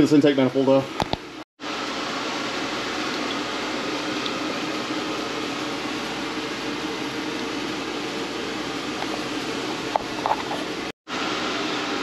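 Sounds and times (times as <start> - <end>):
fan whirring: 0.0 - 12.0.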